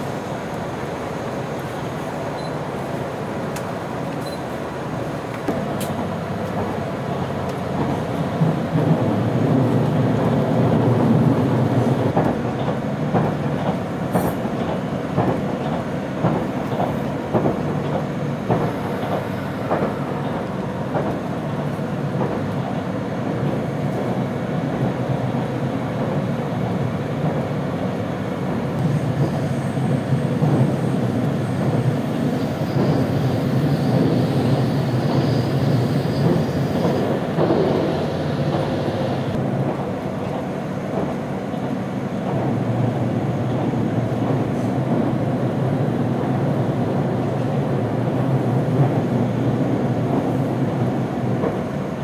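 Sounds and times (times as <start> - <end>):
train running noise: 0.0 - 52.0.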